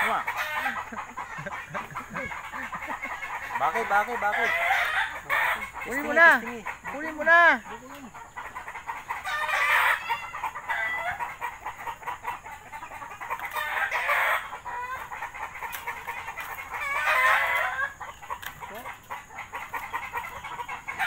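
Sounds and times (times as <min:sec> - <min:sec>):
clucking calls: 0:00.0 - 0:21.0.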